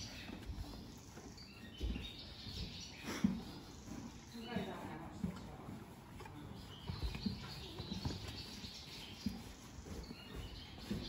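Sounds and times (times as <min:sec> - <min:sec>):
small birds chirping: 0:00.0 - 0:11.0
soft low thumps: 0:00.2 - 0:11.0.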